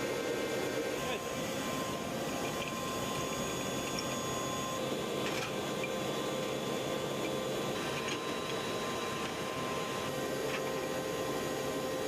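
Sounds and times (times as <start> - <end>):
helicopter turbine engines running: 0.0 - 12.0.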